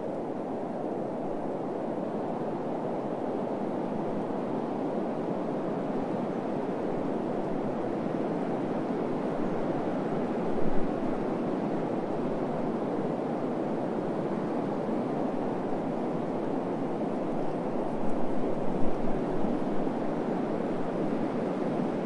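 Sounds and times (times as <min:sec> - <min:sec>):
steady wind: 0:00.0 - 0:22.0.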